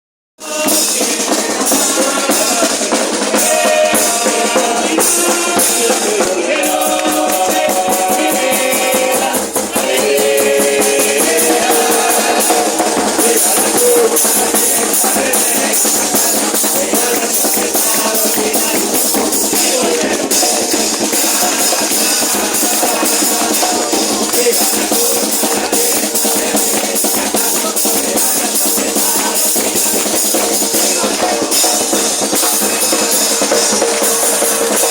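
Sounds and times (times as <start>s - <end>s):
chorus singing: 0.4s - 34.9s
drum section with cymbals: 0.4s - 34.9s.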